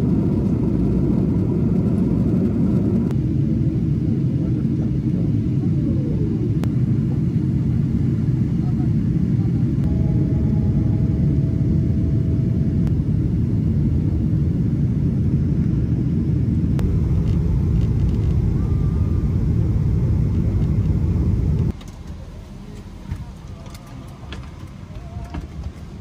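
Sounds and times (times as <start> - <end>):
jet cabin engine rumble: 0.0 - 26.0.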